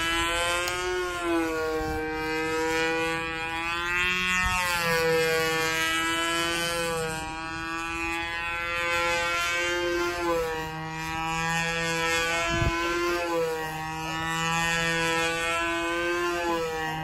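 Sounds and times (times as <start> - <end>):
model airplane motor and propeller: 0.0 - 17.0.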